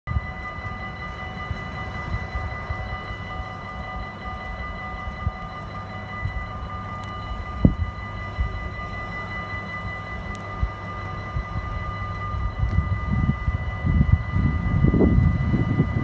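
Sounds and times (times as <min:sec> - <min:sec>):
electric train whine and rumble: 0:00.1 - 0:16.0.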